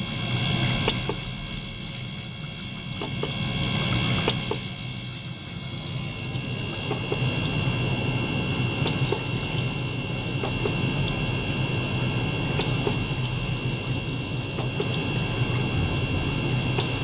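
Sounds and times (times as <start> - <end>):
high-pitched whine and hiss: 0.0 - 17.0
pump humming: 0.0 - 17.0.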